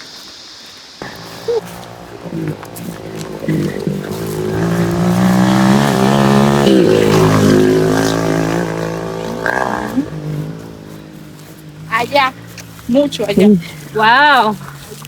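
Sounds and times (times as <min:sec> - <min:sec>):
atv engine under throttle: 0:01.0 - 0:15.0.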